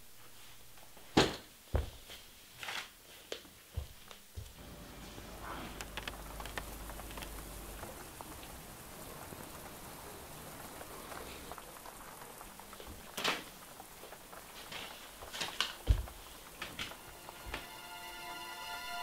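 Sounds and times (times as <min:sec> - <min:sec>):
light rain pattering: 0:00.0 - 0:19.0.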